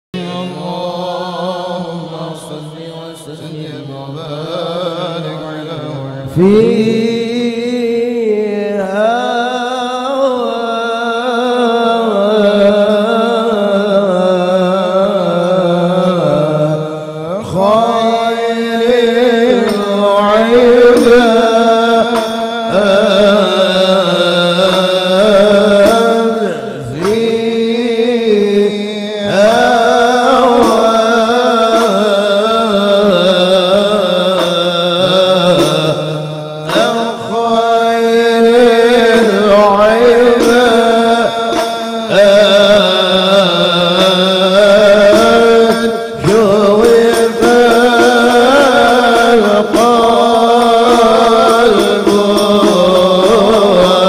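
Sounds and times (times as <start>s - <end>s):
man singing into a microphone: 0.0s - 54.0s.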